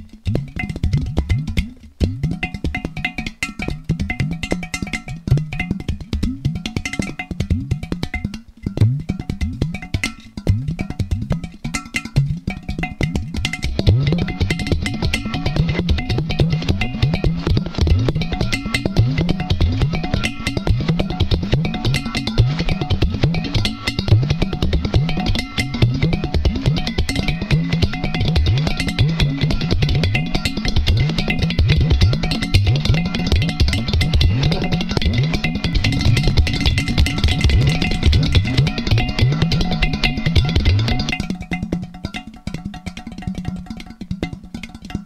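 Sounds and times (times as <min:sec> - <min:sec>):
clay pot drums bass tones: 0:00.0 - 0:45.0
finger taps on clay drums: 0:00.0 - 0:45.0.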